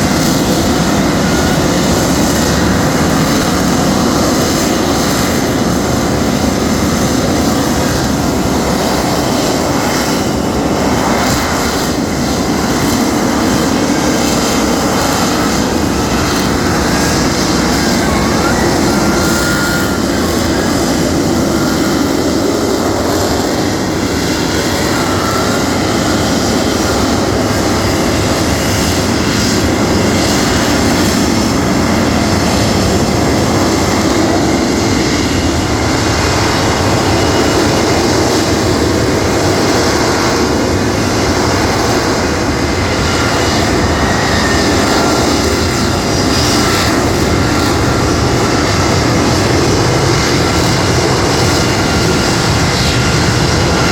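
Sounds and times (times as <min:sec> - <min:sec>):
jet engine roar: 0:00.0 - 0:53.9.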